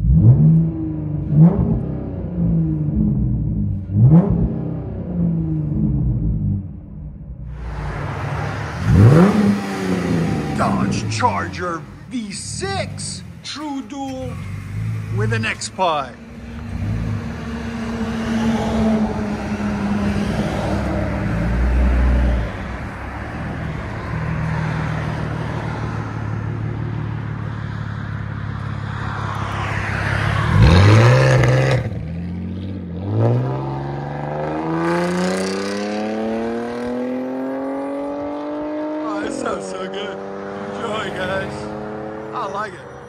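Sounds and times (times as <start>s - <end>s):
car engine droning and revving: 0.0s - 43.0s.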